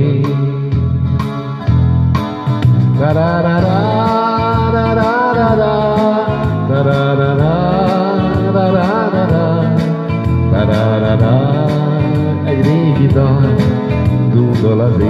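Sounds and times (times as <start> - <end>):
electronic keyboard melody: 0.0 - 15.0
steady bass notes: 0.0 - 15.0.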